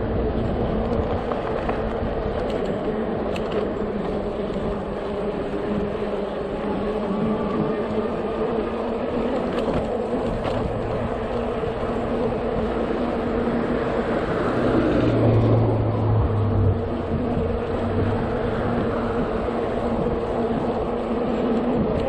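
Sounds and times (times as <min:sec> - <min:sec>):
low drone: 0:00.0 - 0:22.0
tyre noise: 0:00.0 - 0:22.0
wind rush on microphone: 0:00.0 - 0:22.0.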